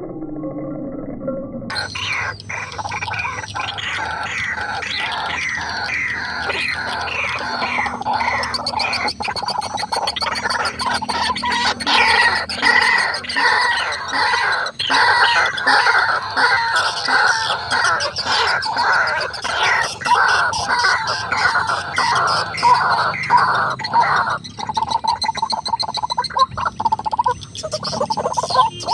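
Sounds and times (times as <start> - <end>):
waterhens calling: 1.7 - 28.9.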